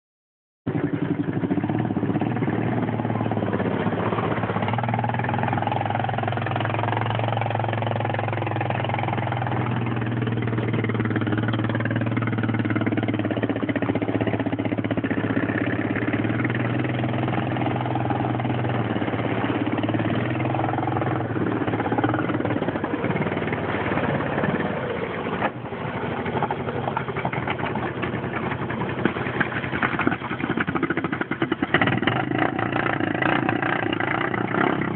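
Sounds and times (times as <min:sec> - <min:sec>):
atv engine running: 0:00.7 - 0:34.9.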